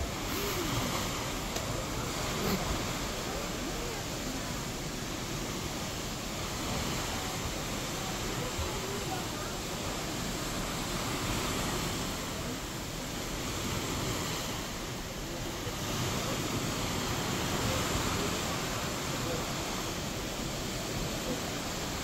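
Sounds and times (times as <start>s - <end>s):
ship wake foaming water hiss: 0.0s - 22.0s.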